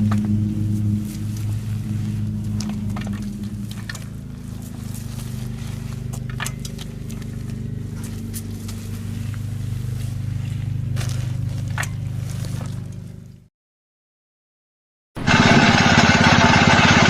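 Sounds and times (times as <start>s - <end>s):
low motor hum: 0.0s - 13.5s, 15.2s - 17.0s.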